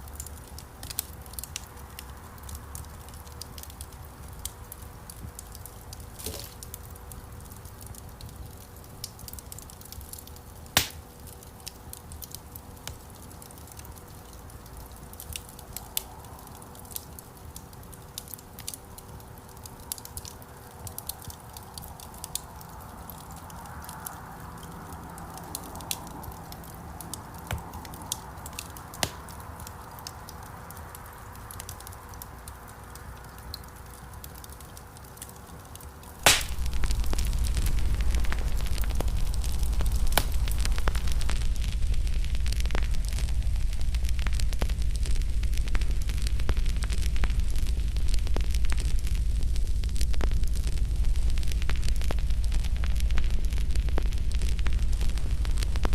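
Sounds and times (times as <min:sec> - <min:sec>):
campfire crackling: 0:00.0 - 0:55.9
loud fire snap: 0:02.4 - 0:24.7, 0:25.3 - 0:55.9.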